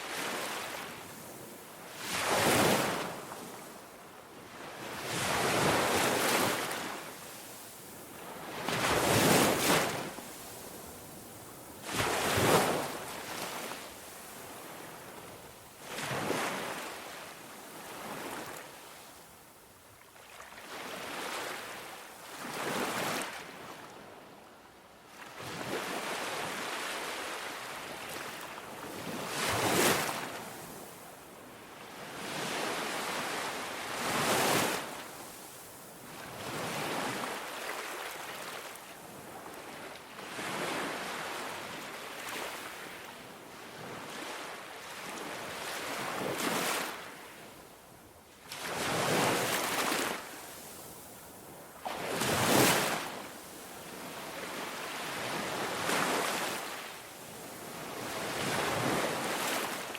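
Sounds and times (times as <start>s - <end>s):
ocean waves breaking on a beach: 0.0s - 59.9s.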